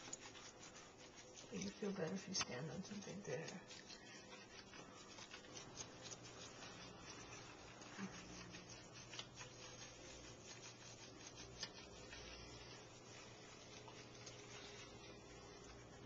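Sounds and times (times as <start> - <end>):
faint rubbing: 0.0 - 16.0.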